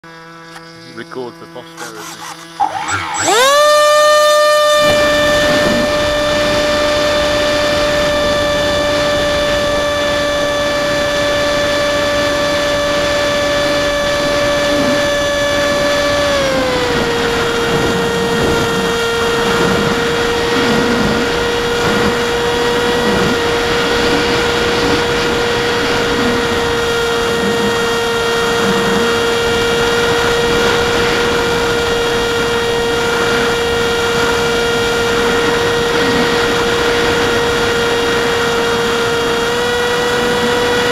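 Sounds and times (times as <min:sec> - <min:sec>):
electric motor and propeller whining: 0:00.0 - 0:40.9.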